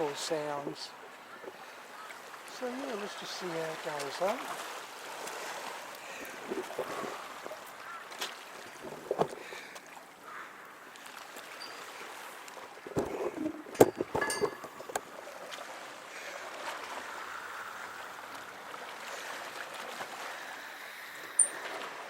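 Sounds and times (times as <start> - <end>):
small waves washing: 0.0 - 22.0.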